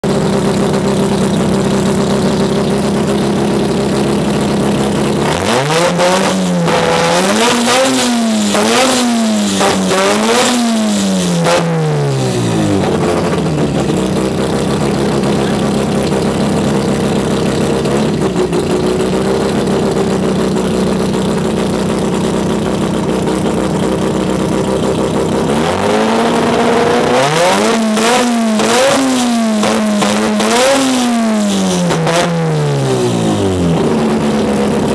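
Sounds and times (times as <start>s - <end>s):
rotary engine idling and revving: 0.0s - 34.9s.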